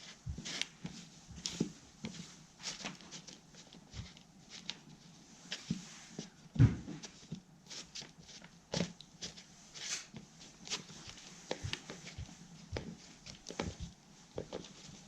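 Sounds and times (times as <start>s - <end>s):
spatula scraping and tapping: 0.0s - 15.0s.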